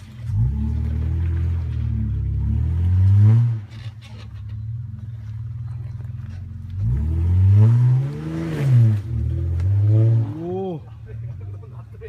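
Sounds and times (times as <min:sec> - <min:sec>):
vehicle engine pulling under load: 0:00.0 - 0:11.6.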